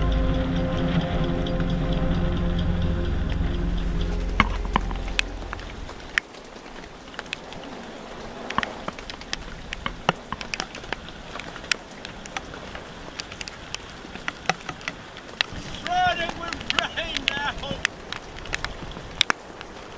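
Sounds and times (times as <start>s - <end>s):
raindrops ticking on camera: 0.0s - 19.9s
wind and rain hiss: 0.0s - 19.9s.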